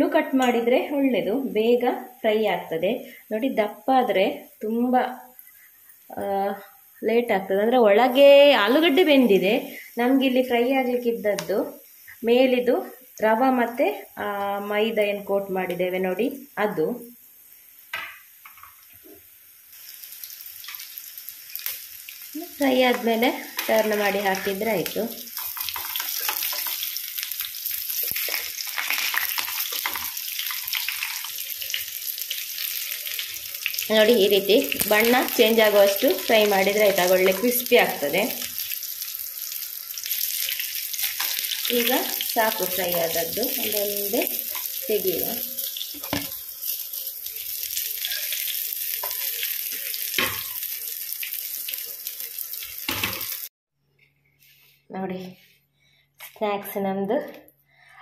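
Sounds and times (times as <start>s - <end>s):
hot oil sizzling: 0.0s - 53.5s.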